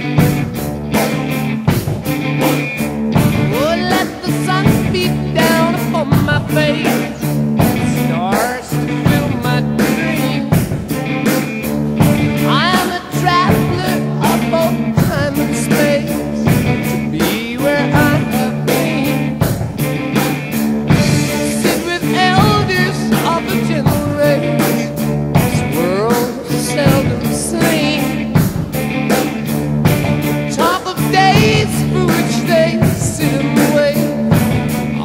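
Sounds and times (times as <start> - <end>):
rock song with singing: 0.0 - 35.0.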